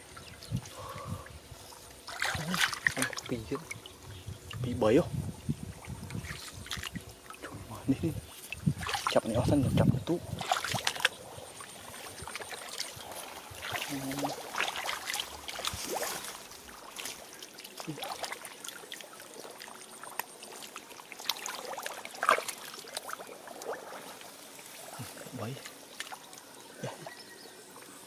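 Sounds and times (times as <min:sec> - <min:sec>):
muddy water splashing: 0:00.0 - 0:05.0, 0:05.6 - 0:27.3.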